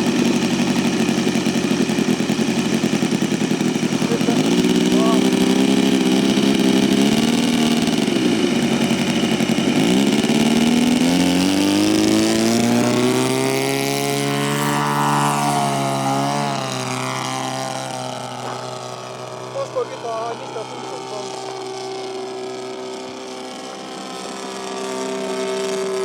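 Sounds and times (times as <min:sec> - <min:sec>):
model airplane engine revving: 0:00.0 - 0:26.0.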